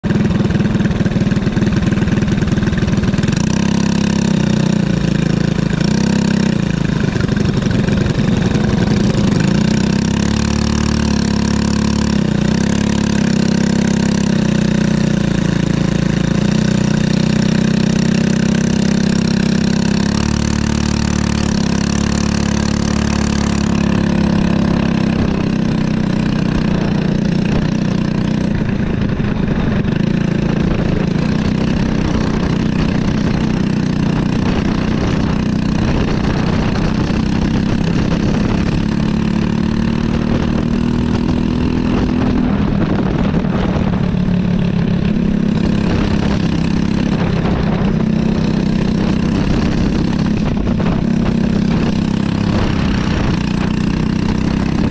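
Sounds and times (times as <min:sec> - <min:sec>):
kart engine running at low revs: 0:00.0 - 0:54.9.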